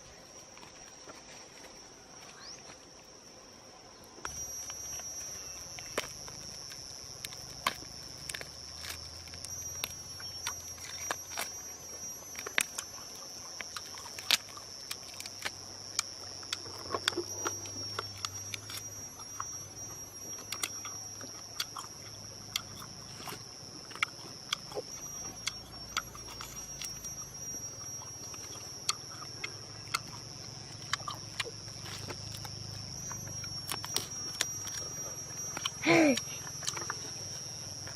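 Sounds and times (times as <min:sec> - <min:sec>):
high-pitched insect chorus: 0:00.0 - 0:37.9
sharp clicks and crackles: 0:04.2 - 0:37.9.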